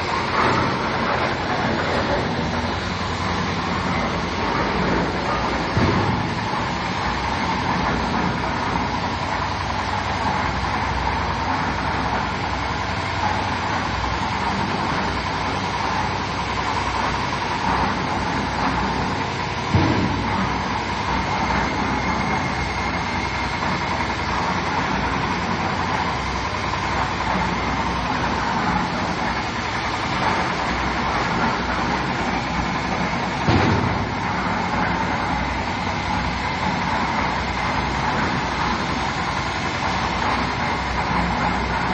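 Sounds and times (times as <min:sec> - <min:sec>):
concrete mixer running: 0:00.0 - 0:41.9.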